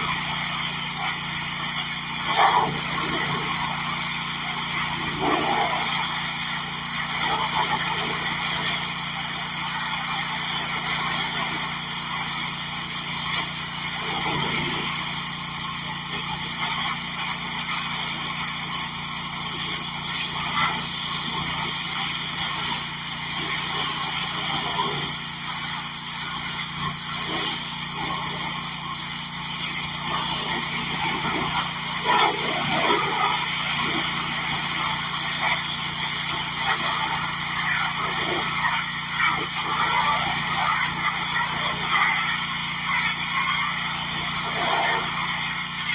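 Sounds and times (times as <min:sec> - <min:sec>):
small petrol engine running: 0:00.0 - 0:45.9.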